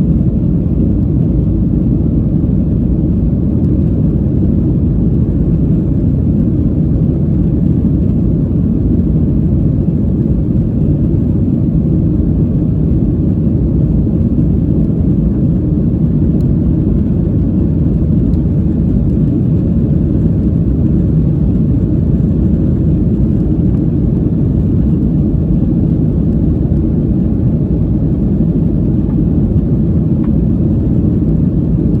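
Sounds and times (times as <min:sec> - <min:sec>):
jet cabin rumble: 0:00.0 - 0:32.0.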